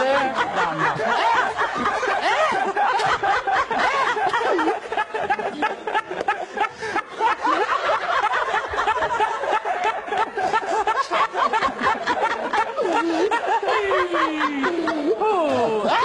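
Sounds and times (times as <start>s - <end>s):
man laughing heartily: 0.0s - 16.0s
people laughing: 0.0s - 16.0s.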